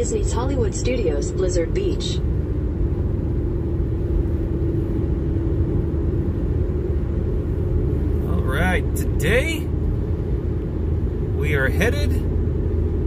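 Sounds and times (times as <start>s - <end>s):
car cabin road rumble: 0.0s - 13.0s
faint steady hum: 0.0s - 13.0s.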